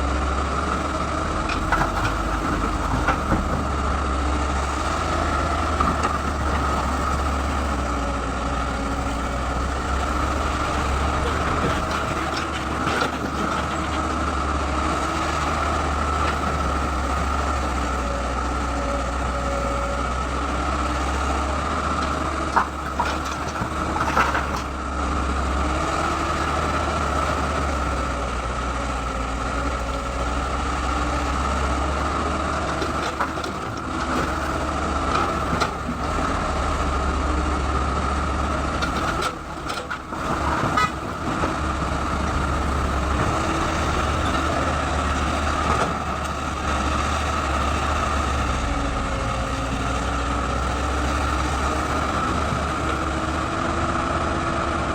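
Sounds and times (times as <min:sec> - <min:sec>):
excavator diesel engine whining: 0:00.0 - 0:54.9.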